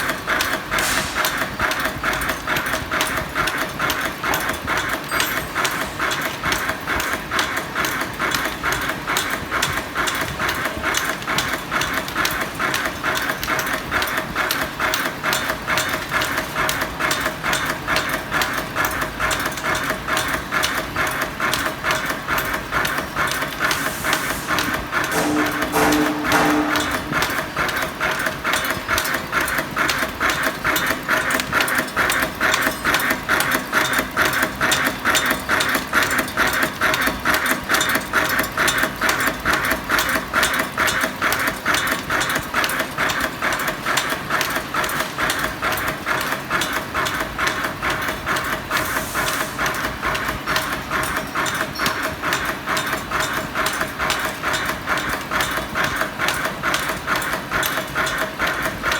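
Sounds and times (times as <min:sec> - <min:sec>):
machine rhythmic clatter: 0:00.0 - 0:58.9.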